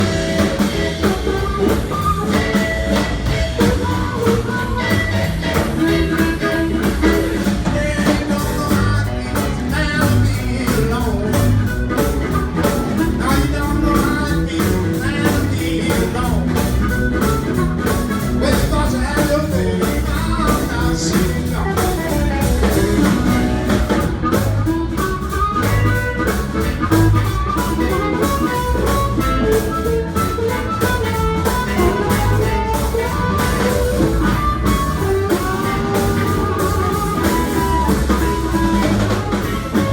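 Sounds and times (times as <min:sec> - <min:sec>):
electric guitar: 0:00.0 - 0:39.9
live blues band playing: 0:00.0 - 0:39.9.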